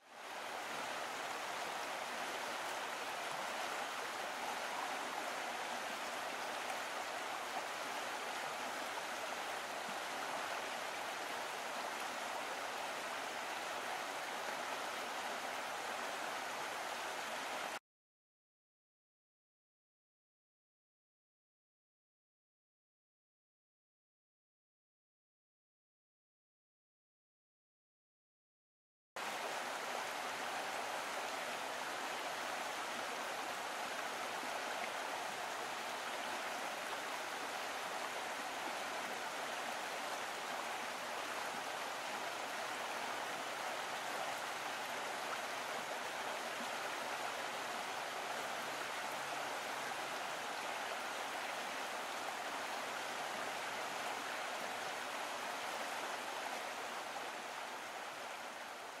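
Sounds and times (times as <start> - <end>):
stream flowing over stones: 0.0 - 17.8, 29.2 - 59.0.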